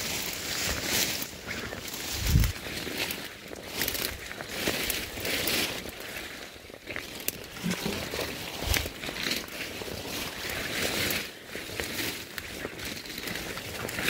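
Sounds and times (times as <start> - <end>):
footsteps through wet undergrowth: 0.0 - 14.0
leaves and branches rustling: 0.0 - 14.0.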